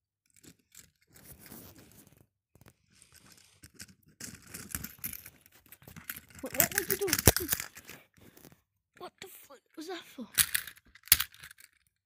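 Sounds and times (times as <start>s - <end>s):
toy trains rustling and clicking: 0.3s - 12.0s.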